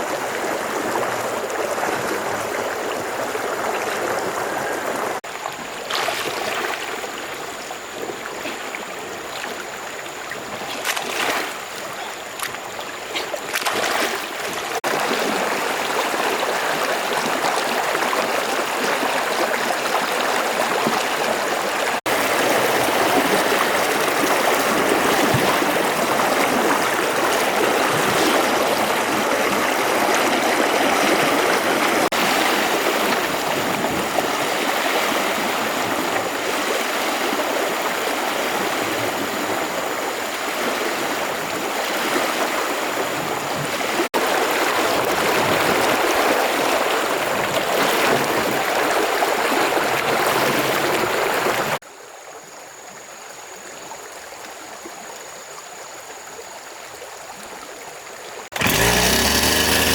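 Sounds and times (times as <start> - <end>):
flowing water rushing: 0.0 - 51.8, 57.3 - 59.9.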